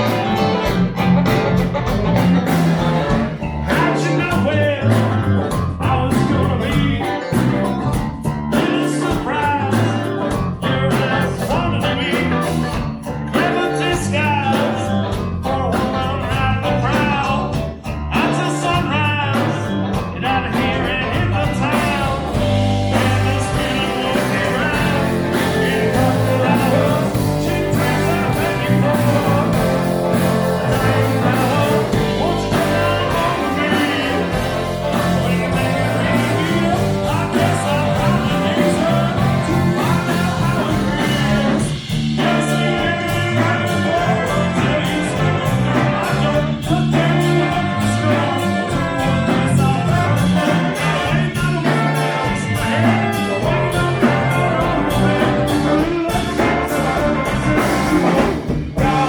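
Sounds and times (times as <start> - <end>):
live rock band playing: 0.0 - 59.0
lead singer singing: 3.6 - 7.4, 8.5 - 12.6, 13.3 - 59.0.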